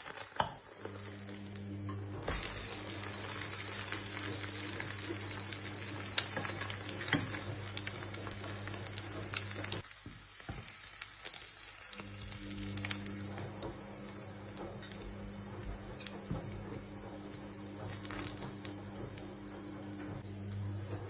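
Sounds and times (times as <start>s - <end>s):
food sizzling in a frying pan: 0.0s - 16.4s, 17.2s - 19.2s.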